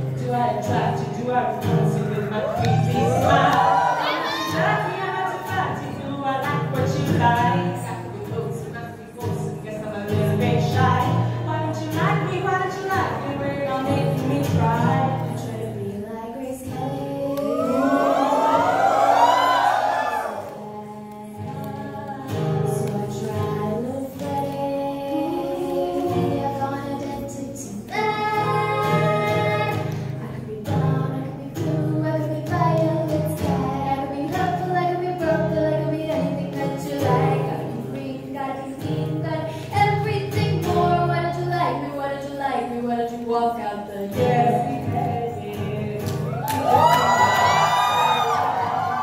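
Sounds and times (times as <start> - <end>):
acoustic guitar: 0.0 - 49.0
women singing: 0.0 - 49.0.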